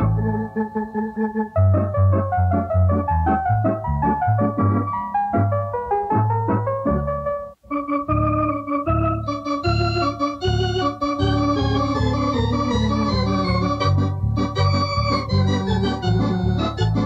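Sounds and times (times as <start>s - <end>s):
electronic organ playing: 0.0s - 17.0s.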